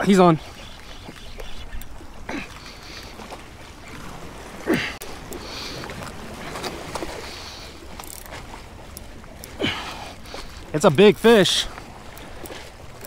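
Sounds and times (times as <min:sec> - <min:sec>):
water lapping against rocks: 0:00.0 - 0:13.0.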